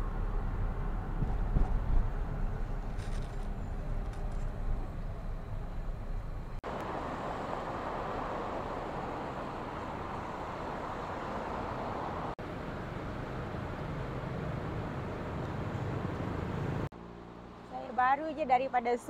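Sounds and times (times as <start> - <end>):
car road noise rumble: 0.0 - 17.6
roadside traffic din: 0.0 - 19.0.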